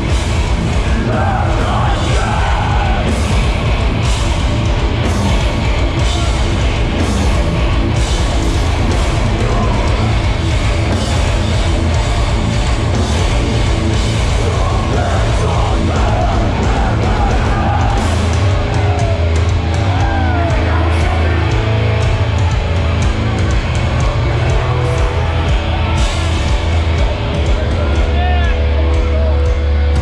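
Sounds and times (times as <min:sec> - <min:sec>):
drums: 0:00.0 - 0:30.0
heavy guitars: 0:00.0 - 0:30.0.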